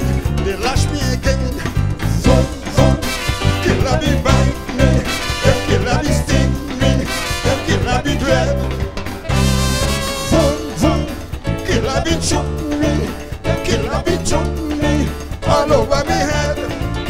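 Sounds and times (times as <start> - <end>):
live calypso band with brass: 0.0 - 17.0.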